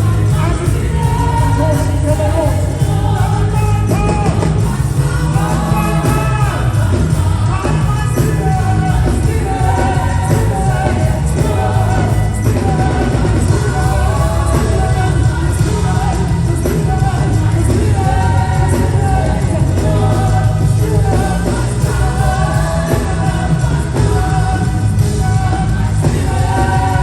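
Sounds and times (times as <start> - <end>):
band with steady bass line: 0.0 - 27.0
voices singing: 0.0 - 27.0.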